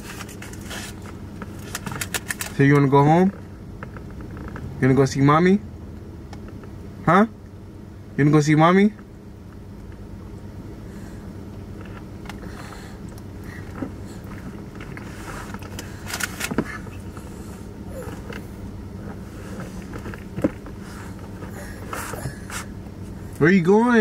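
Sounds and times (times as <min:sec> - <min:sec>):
car engine low hum: 0:00.0 - 0:24.0.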